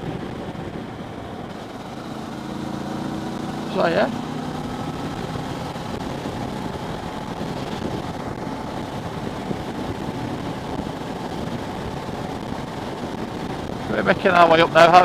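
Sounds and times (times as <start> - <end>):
motorcycle engine running: 0.0 - 14.2
wind and road noise: 0.0 - 15.0.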